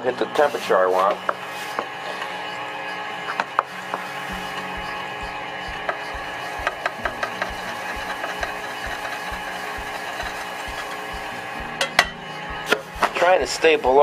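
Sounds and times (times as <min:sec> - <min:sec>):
mixer motor hum: 0:00.0 - 0:14.0.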